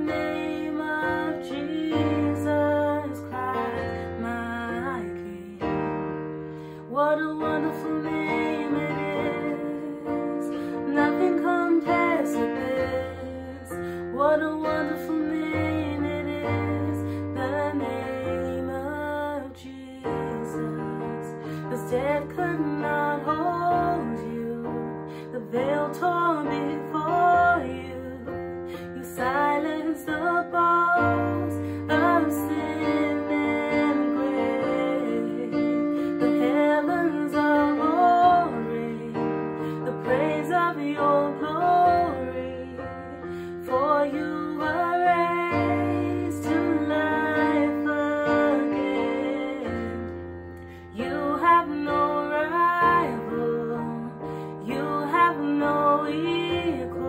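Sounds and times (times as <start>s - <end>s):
woman singing: 0.0s - 57.0s.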